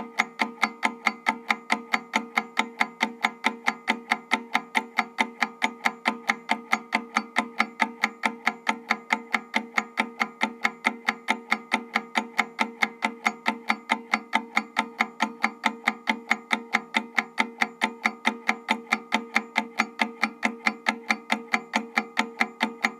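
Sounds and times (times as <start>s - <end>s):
mechanical timer ticking: 0.0s - 22.9s.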